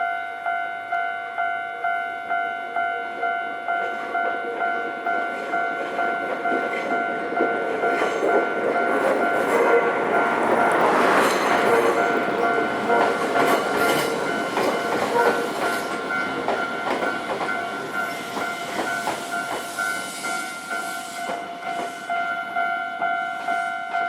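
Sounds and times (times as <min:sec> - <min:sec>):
level crossing warning bell: 0:00.0 - 0:24.0
train wheels clacking on rail joints: 0:03.8 - 0:24.0.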